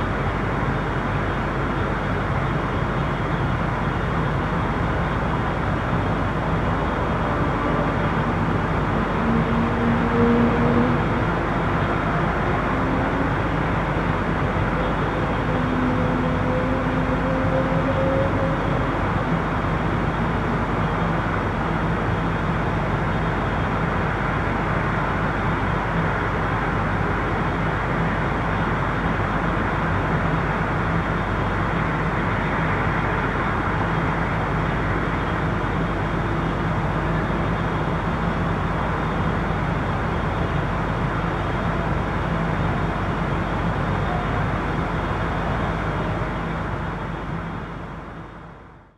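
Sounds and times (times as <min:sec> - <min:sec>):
passing vehicles and tyre noise: 0:00.0 - 0:48.9.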